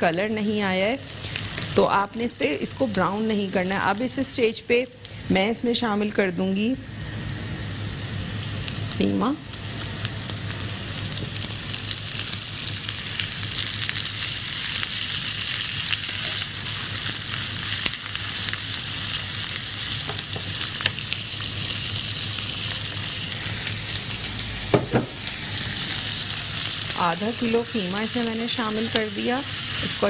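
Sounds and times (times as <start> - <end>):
meat sizzling in hot oil: 0.0 - 5.9, 6.6 - 30.0.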